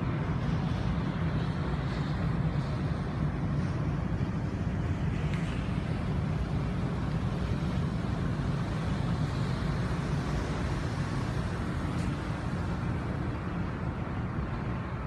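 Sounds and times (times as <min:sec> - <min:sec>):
ship low rumble: 0:00.0 - 0:15.0
wind noise on microphone: 0:00.0 - 0:15.0.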